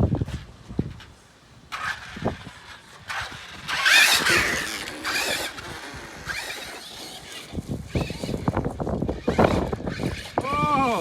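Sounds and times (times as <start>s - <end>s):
small electric motor whining: 0.7s - 11.0s.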